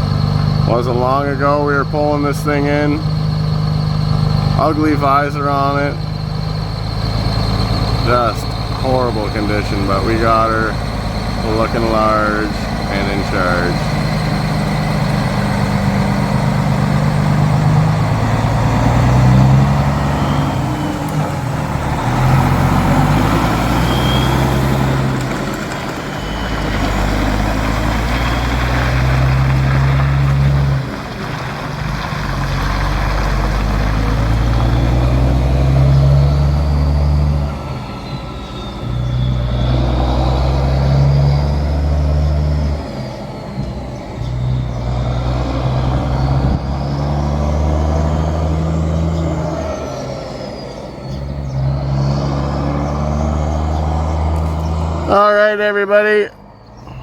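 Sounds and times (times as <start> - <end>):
truck diesel engine accelerating: 0.0 - 57.0.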